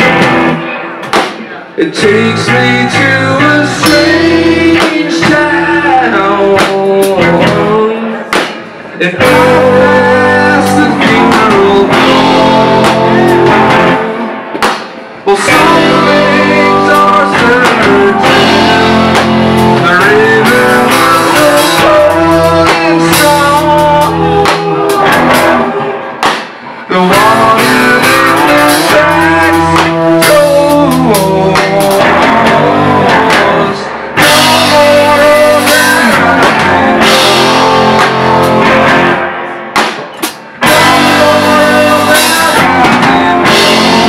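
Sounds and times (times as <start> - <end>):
rock band playing live: 0.0 - 44.0
person singing: 1.4 - 39.6, 40.3 - 44.0.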